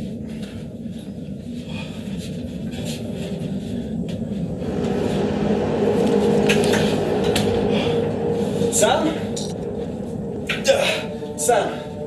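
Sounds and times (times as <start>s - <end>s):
ominous low droning rumble: 0.0s - 12.0s.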